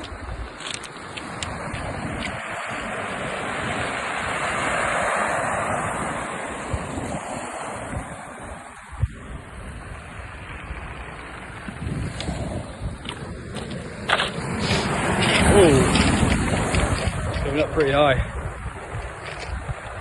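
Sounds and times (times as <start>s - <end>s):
sea waves surging up beach: 0.0s - 20.0s
wind buffeting microphone: 0.0s - 20.0s.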